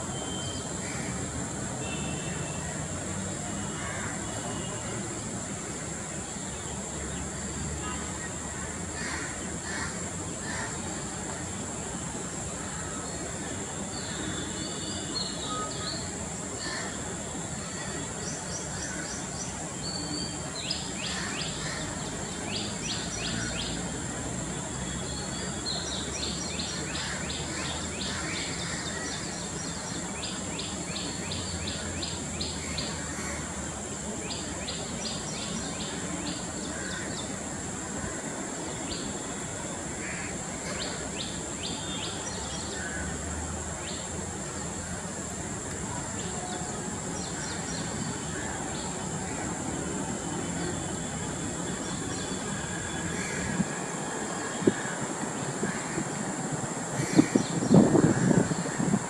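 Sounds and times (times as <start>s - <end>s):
steady high-pitched whine: 0.0s - 59.0s.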